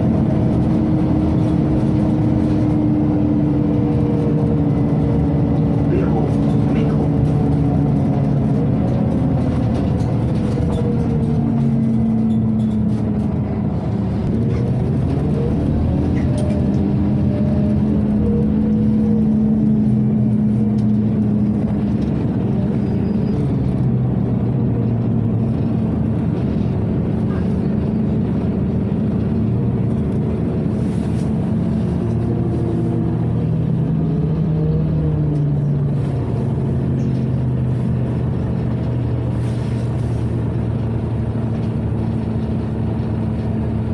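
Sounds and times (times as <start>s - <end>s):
bus diesel engine: 0.0s - 43.9s
low rumble of running bus: 0.0s - 43.9s.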